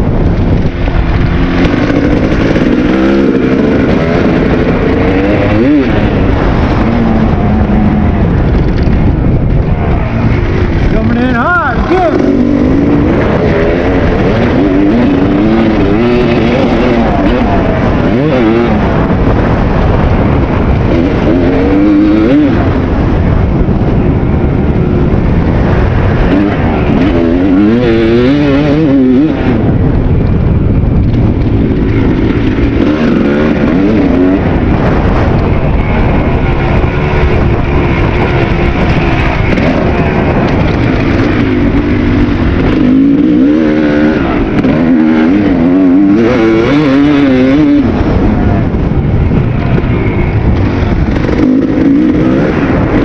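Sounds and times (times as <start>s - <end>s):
constant rush of noise: 0.0s - 53.0s
dirt bike engine revving: 0.0s - 53.0s.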